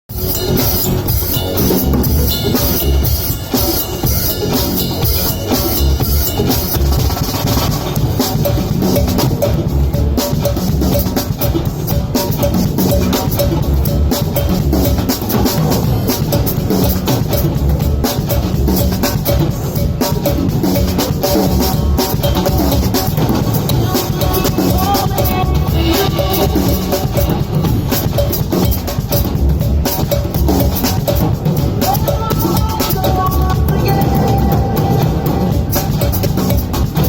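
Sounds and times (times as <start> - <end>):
live band through loudspeakers: 0.1 - 37.0.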